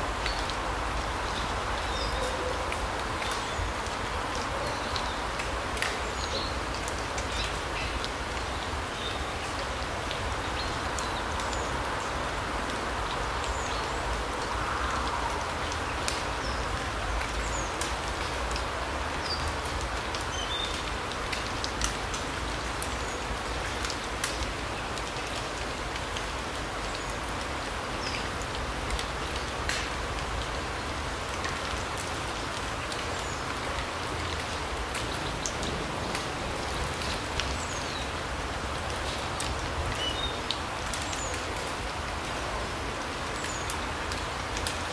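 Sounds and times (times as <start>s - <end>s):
drip-like ticks: 0.1s - 44.9s.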